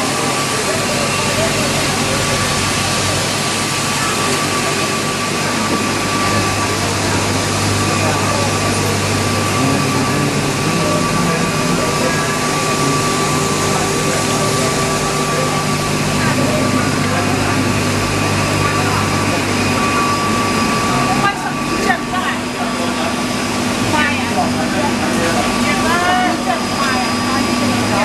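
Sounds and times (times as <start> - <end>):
faint voices: 0.0 - 28.0
thin whine over low hum: 0.0 - 28.0.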